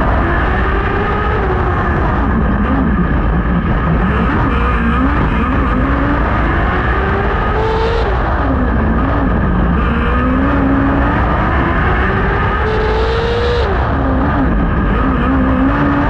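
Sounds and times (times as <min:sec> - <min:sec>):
other race car engines: 0:00.0 - 0:16.0
race car engine revving: 0:00.0 - 0:16.0.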